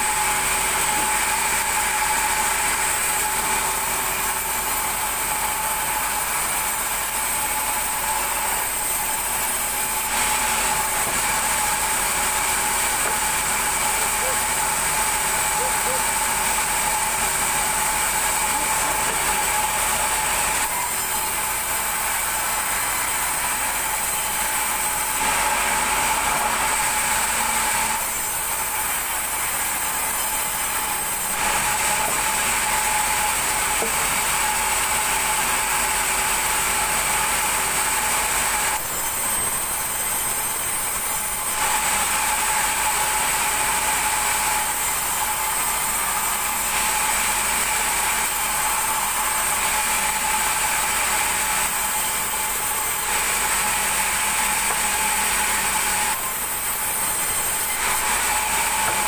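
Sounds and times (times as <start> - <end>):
band saw cutting timber: 0.0 - 59.0.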